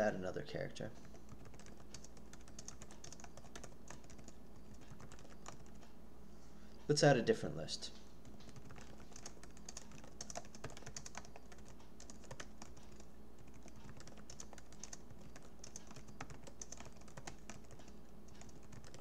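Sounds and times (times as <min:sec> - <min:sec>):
low steady hum: 0:00.0 - 0:19.0
keyboard typing: 0:00.9 - 0:05.9, 0:08.2 - 0:19.0.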